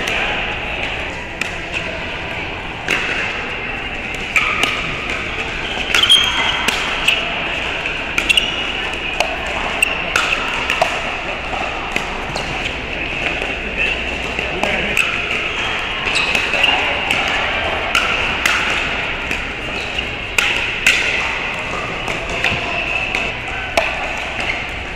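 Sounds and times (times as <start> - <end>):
busy hall din: 0.0 - 24.9.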